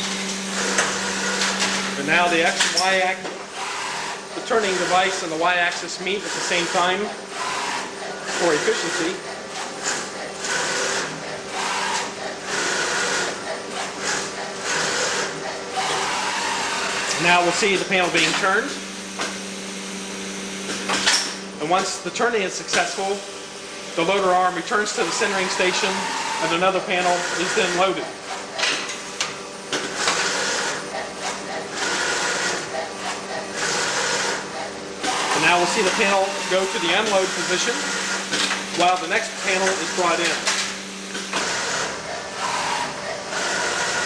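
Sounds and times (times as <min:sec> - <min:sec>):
machine mechanical whine and hiss: 0:00.0 - 0:44.0.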